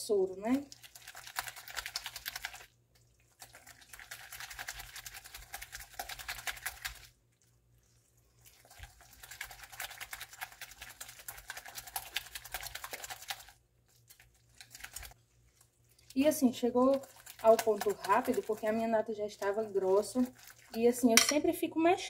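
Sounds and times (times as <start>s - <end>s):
cream stirred in a glass bowl: 0.4s - 21.4s.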